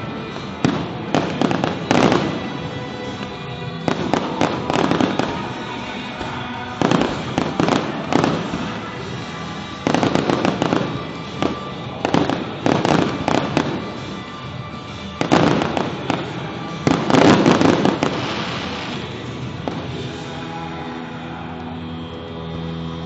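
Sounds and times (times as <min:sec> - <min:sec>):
fireworks bursting and crackling: 0:00.0 - 0:20.5
background music: 0:00.0 - 0:23.0.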